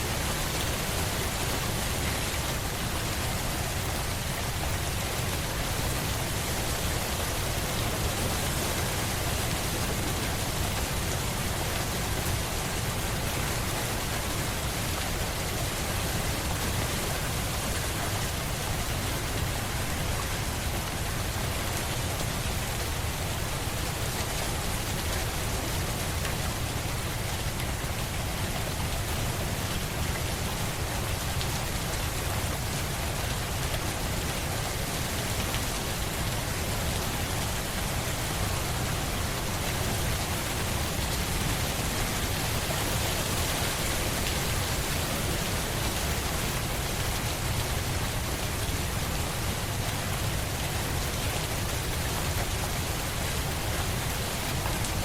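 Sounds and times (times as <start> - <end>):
rain hissing on a surface: 0.0 - 55.0.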